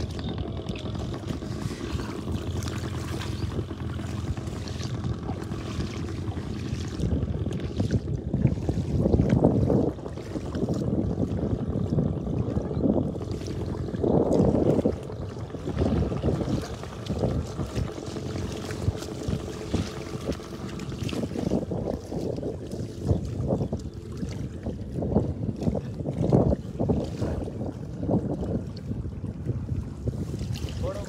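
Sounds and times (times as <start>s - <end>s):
low engine hum: 0.0s - 31.0s
wind buffeting microphone: 0.0s - 31.0s.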